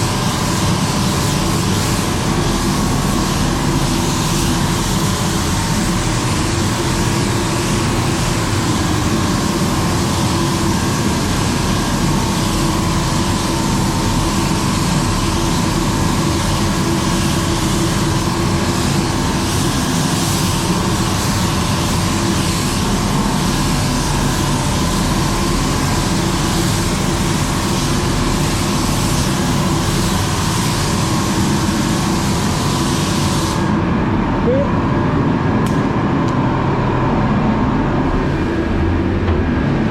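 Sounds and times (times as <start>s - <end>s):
extraction fans rushing air: 0.0s - 39.9s.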